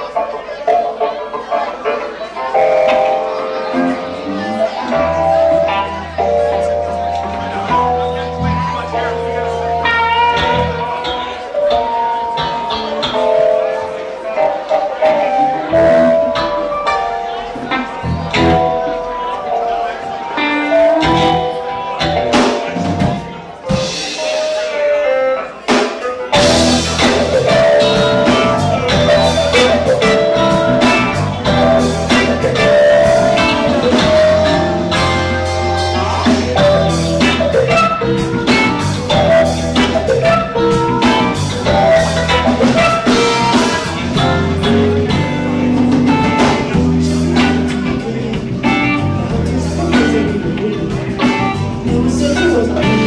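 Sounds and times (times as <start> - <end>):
bass guitar: 0.0 - 53.0
electric guitars: 0.0 - 53.0
drum kit: 2.5 - 19.4, 20.0 - 53.0.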